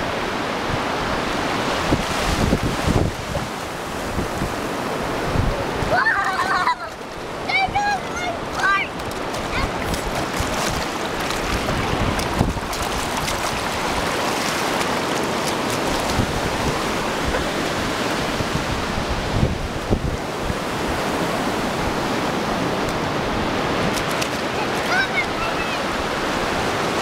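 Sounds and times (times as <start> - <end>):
surf washing up beach: 0.0 - 27.0
wind buffeting microphone: 0.0 - 27.0.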